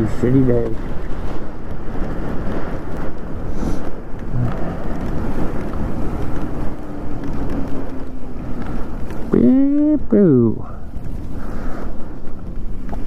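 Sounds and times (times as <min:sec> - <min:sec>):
tyres rumbling on wet road: 0:00.0 - 0:13.0
wind buffeting microphone: 0:00.0 - 0:13.0.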